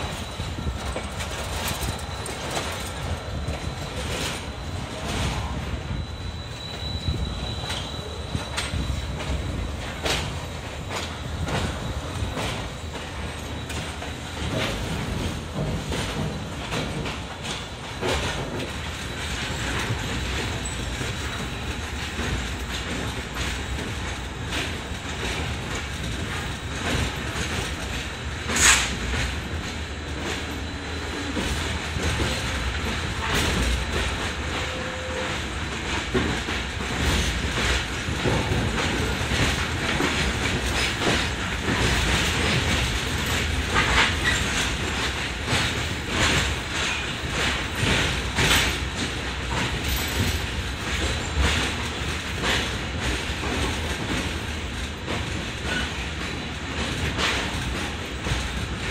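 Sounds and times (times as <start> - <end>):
train wheels clattering on rails: 0.0 - 58.9.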